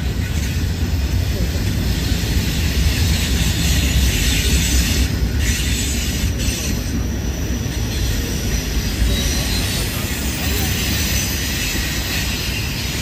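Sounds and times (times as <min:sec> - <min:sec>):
hiss from passing train: 0:00.0 - 0:13.0
train wheels rumbling on rails: 0:00.0 - 0:13.0.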